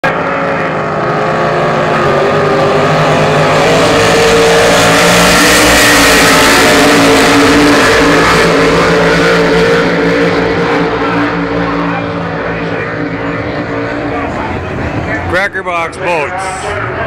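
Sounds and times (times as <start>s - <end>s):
race boat engines passing: 0.0s - 17.0s.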